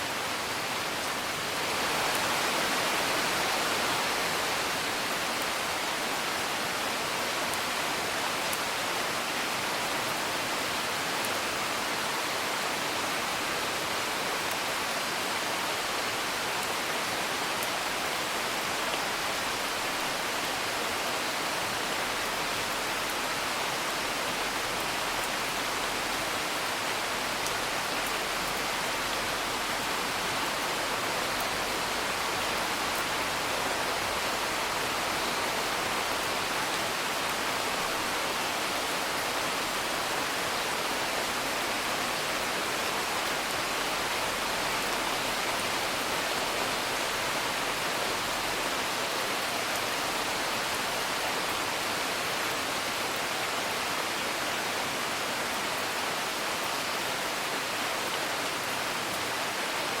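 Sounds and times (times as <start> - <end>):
steady rain: 0.0 - 60.0.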